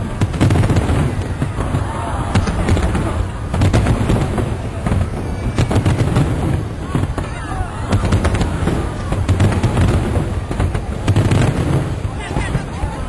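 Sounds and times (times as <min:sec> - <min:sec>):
fireworks bangs and booms: 0:00.0 - 0:13.0
rumble of explosions: 0:00.0 - 0:13.0.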